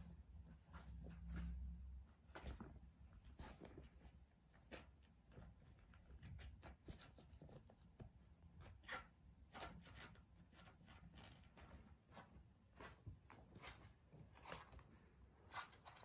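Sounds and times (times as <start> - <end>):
kitten scratching play tunnel: 0.5 - 16.0.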